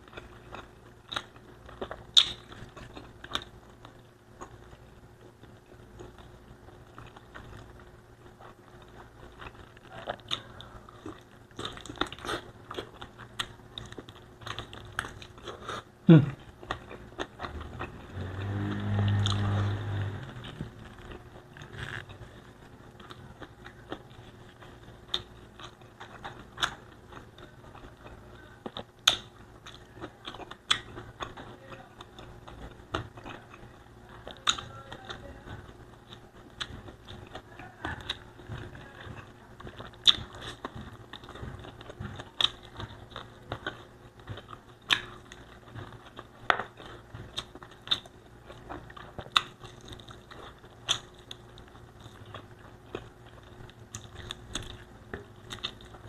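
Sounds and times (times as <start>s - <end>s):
close chewing with mouth smacks: 0.0s - 56.0s.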